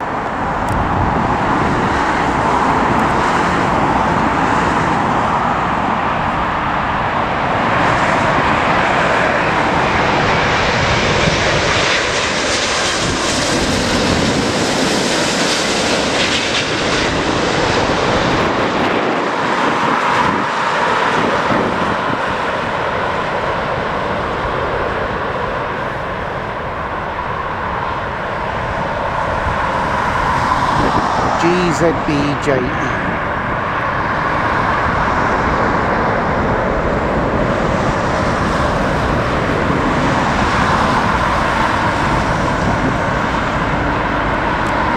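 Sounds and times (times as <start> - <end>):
wind rumbling on microphone: 0.0 - 11.8, 17.0 - 25.8, 26.6 - 32.0, 32.8 - 44.9
jet airliner engines: 0.0 - 44.9.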